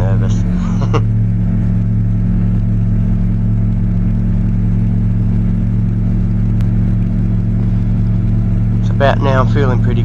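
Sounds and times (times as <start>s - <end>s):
aircraft engine running: 0.0s - 10.0s.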